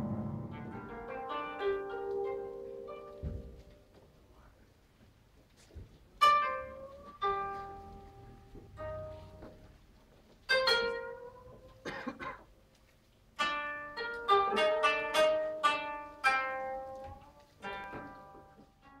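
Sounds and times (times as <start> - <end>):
plucked string instrument: 0.0 - 4.2, 6.2 - 12.5, 13.4 - 19.0.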